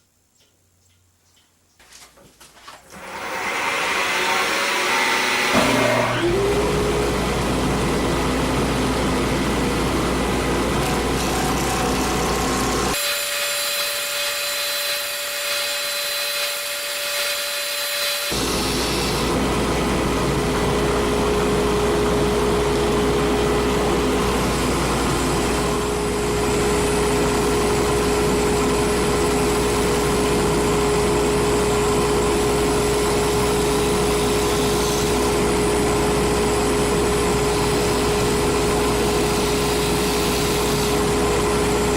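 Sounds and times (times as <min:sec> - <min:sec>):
electric wood lathe running: 0:02.9 - 0:41.9.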